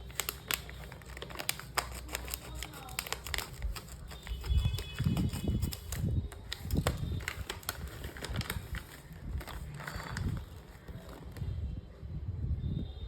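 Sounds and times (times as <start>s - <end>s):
plastic pouch crinkling: 0.0s - 11.6s.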